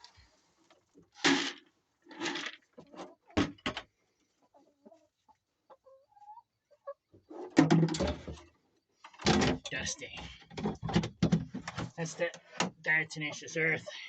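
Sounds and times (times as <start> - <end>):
chickens clucking: 2.6 - 14.0.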